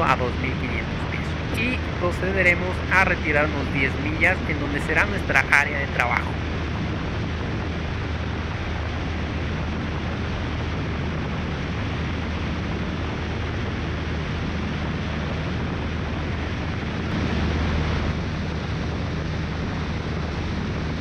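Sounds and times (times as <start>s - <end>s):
propeller aircraft engine drone: 0.0s - 21.0s
wind rushing on microphone: 0.0s - 21.0s.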